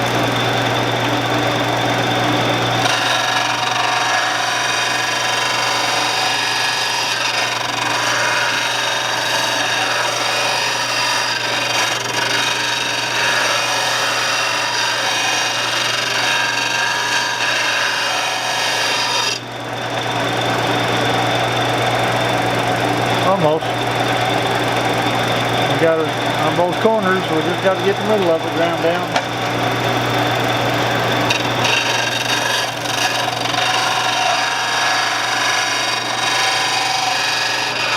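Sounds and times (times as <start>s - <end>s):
lathe gouge grinding: 0.0s - 37.9s
motor humming: 0.0s - 37.9s.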